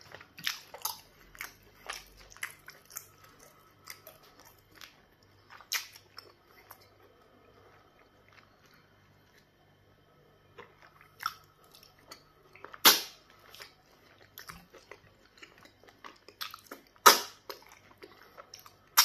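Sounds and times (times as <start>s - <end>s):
person chewing wet mouth sounds: 0.0s - 9.5s, 10.5s - 19.0s.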